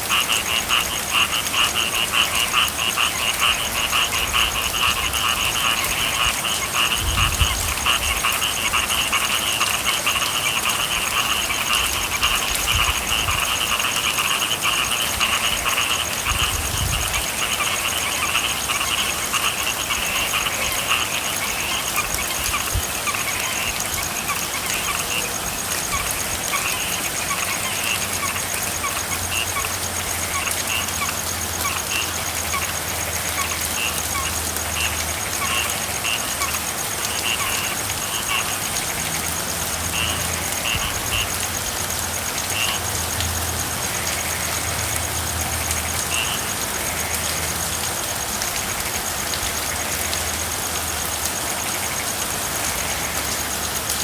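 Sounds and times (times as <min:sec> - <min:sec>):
frogs calling: 0:00.0 - 0:54.0
steady rainfall: 0:00.0 - 0:54.0.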